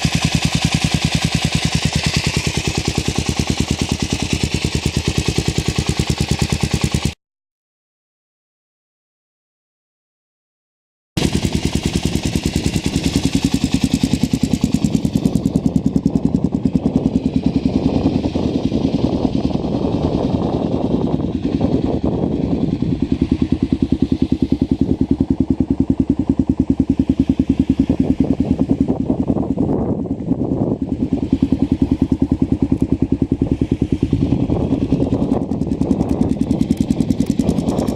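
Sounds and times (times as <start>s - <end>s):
motorcycle engine idling: 0.0s - 7.2s, 11.2s - 37.9s.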